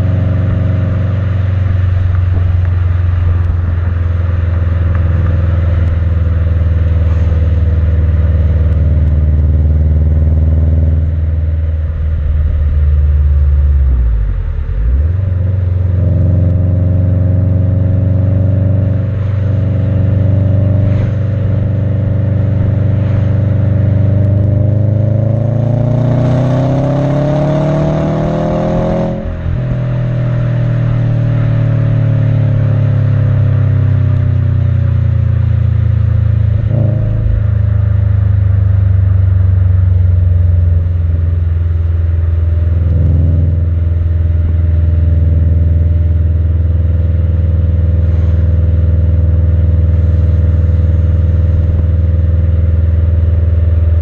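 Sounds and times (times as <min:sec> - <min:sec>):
car exhaust engine revving: 0:00.0 - 0:54.0.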